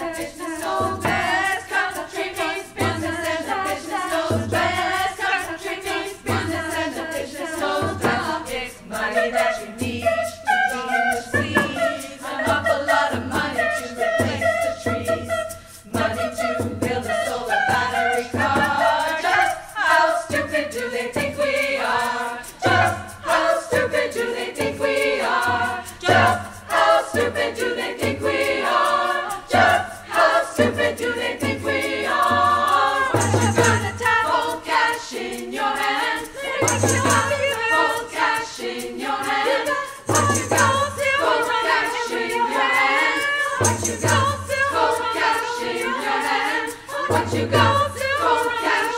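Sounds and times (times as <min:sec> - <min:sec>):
women's choir singing: 0:00.0 - 0:48.9
frame drum beat: 0:00.6 - 0:09.0, 0:11.4 - 0:48.9.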